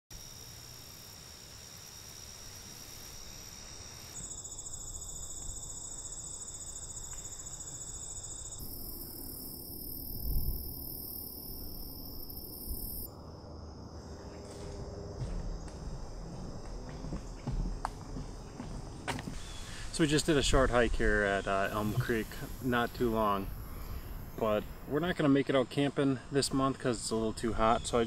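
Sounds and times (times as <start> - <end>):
insects trilling chorus: 0.1 - 17.6, 18.2 - 28.0.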